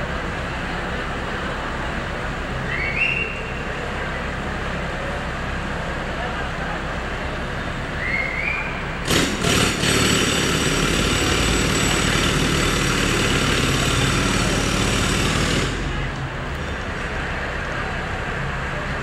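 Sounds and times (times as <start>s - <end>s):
engine running steadily: 0.0s - 19.0s
loud harsh machine noise: 0.0s - 19.0s.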